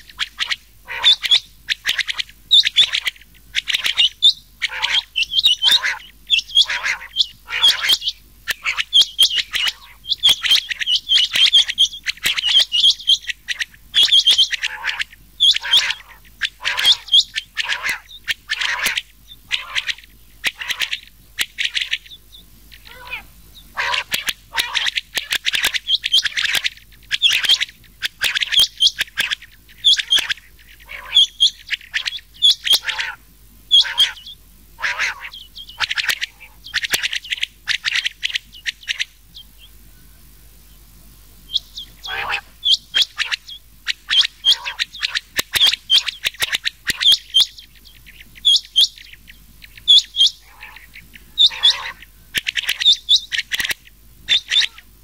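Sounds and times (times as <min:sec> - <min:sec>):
quail calling: 0:00.0 - 0:55.0.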